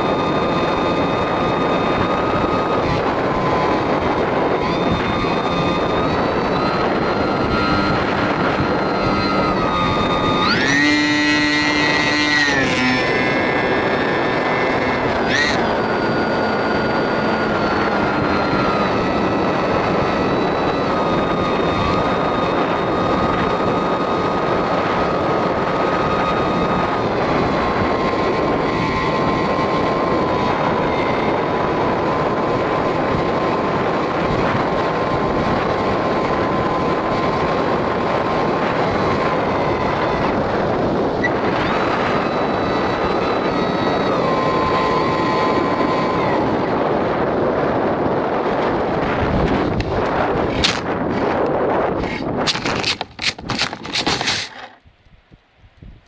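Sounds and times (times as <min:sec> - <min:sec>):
motor and propeller whining: 0:00.0 - 0:56.0
wind rush on microphone: 0:00.0 - 0:56.0.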